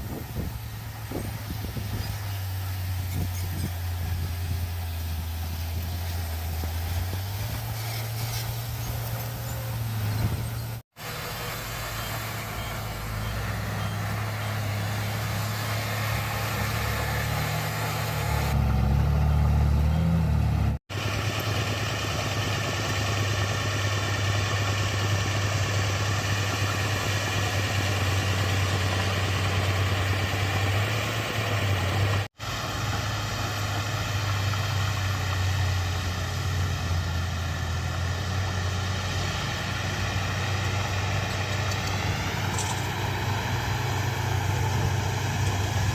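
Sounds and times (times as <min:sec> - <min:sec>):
bulldozer diesel engine droning: 0:00.0 - 0:45.9.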